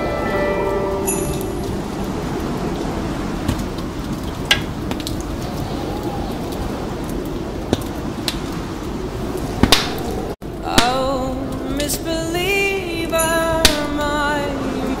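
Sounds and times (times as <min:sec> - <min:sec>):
low rushing noise: 0:00.0 - 0:12.4.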